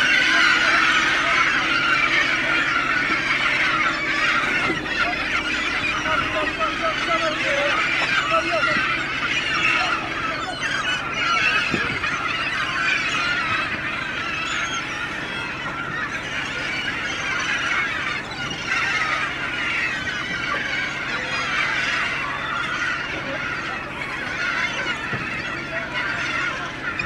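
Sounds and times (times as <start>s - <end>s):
gulls squealing: 0.0s - 27.0s
low steady hum: 0.0s - 27.0s.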